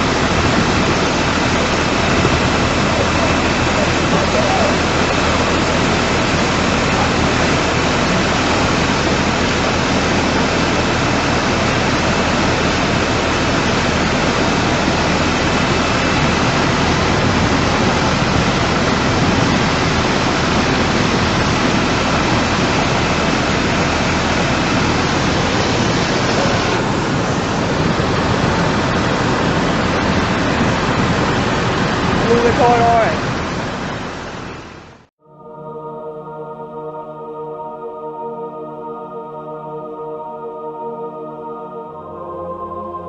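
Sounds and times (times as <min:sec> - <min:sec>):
floodwater roaring: 0:00.0 - 0:35.1.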